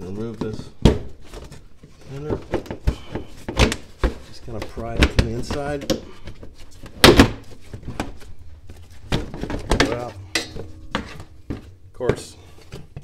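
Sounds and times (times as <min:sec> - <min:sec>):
knocks and scraping of plastic liner: 0:00.2 - 0:13.0.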